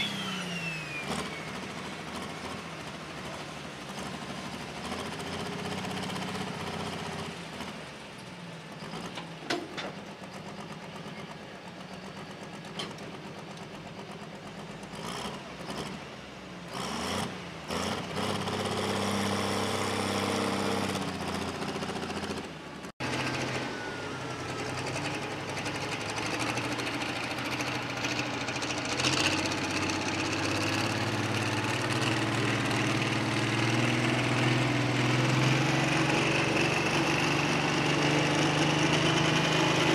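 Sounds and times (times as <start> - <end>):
diesel tractor engines running: 0.0 - 39.9.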